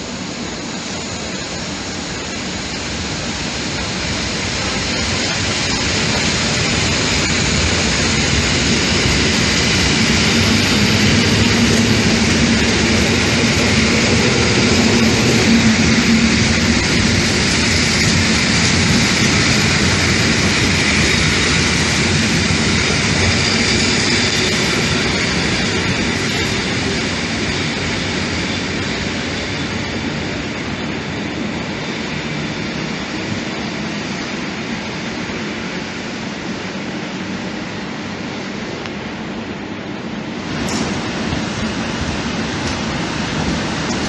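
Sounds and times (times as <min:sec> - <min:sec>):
train rumbling past on rails: 0:00.0 - 0:44.0.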